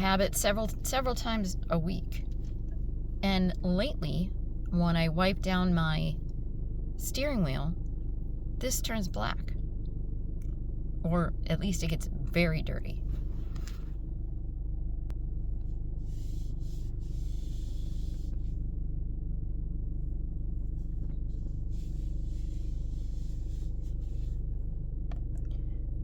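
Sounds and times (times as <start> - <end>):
car engine rumble from inside: 0.0 - 26.0.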